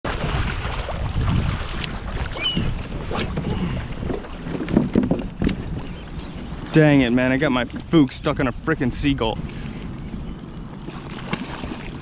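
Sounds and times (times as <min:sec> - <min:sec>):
water lapping against hull: 0:00.0 - 0:12.0
wind buffeting microphone: 0:00.1 - 0:12.0.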